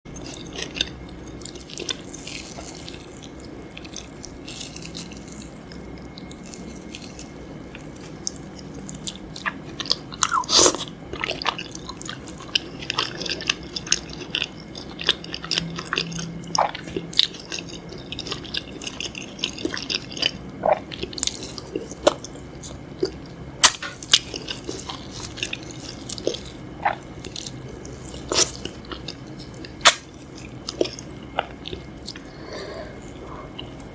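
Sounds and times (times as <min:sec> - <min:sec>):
person chewing crunchy food: 0:00.1 - 0:33.9.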